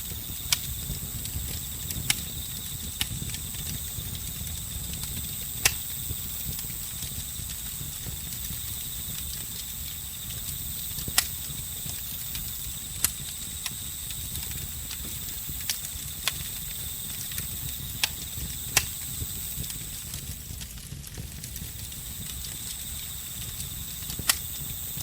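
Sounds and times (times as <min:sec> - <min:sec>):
crickets chirring: 0:00.0 - 0:20.6, 0:21.4 - 0:25.0
campfire crackling: 0:00.0 - 0:25.0
low rumble of burning fire: 0:00.0 - 0:25.0
sharp pops of fire: 0:00.0 - 0:25.0.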